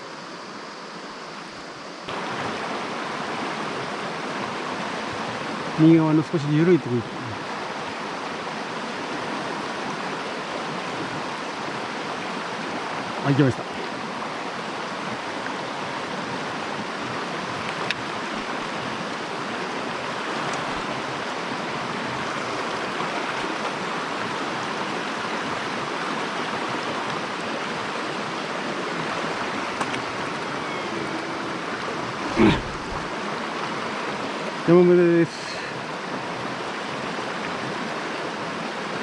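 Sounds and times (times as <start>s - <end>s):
stream water over rocks: 0.0s - 39.0s.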